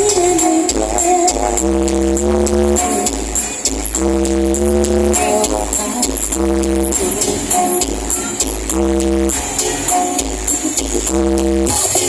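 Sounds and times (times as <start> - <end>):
loud electronic dance music: 0.0 - 12.0.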